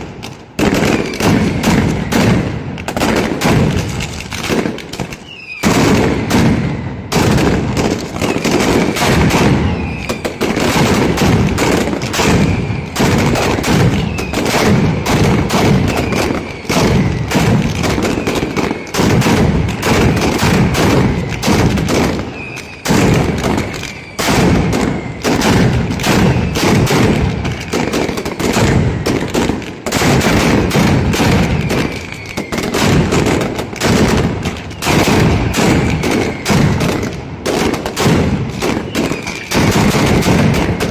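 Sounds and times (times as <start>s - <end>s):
rapid firecracker bangs: 0.0s - 40.9s.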